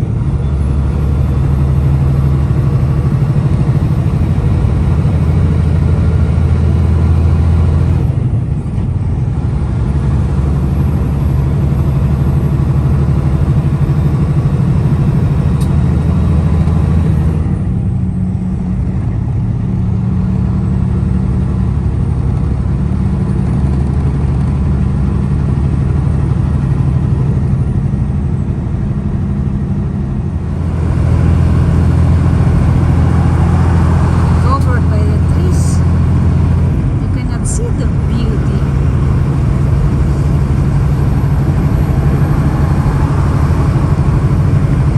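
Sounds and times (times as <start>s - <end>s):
truck engine drone from inside cab: 0.0s - 44.9s.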